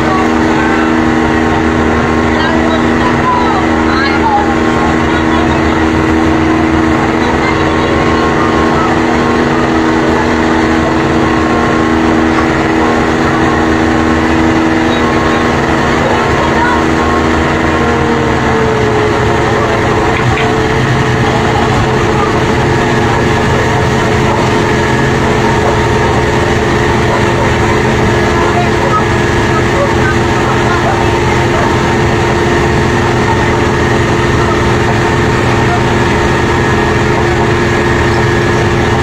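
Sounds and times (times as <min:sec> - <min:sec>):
engine droning steadily: 0:00.0 - 0:39.0.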